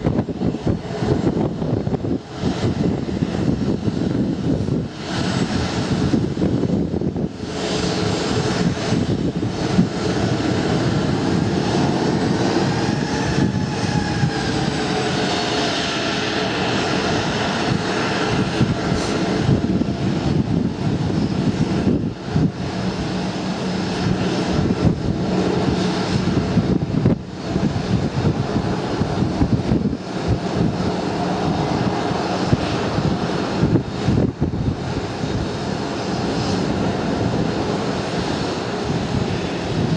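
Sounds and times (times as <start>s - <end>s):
airliner engines rumbling: 0.0s - 39.9s
engine whine: 0.0s - 39.9s.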